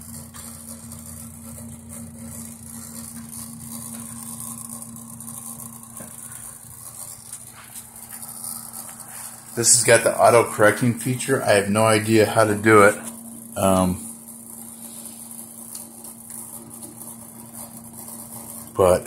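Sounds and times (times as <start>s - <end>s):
electric typewriter motor hum: 0.0s - 19.0s.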